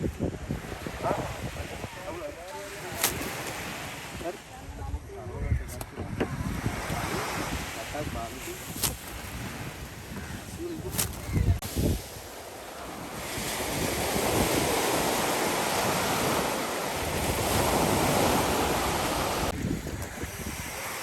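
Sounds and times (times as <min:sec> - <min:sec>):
surf washing on shore: 0:00.0 - 0:21.0
wind buffeting microphone: 0:00.0 - 0:21.0.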